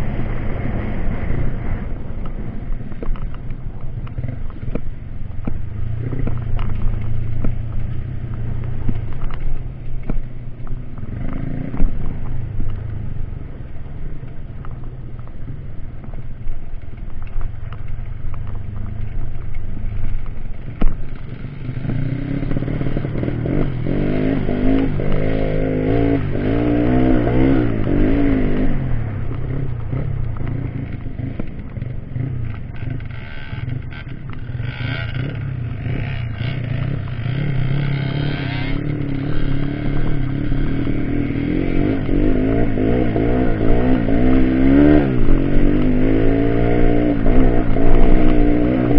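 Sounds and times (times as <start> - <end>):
motorcycle engine revving: 0.0 - 14.9, 17.2 - 48.9.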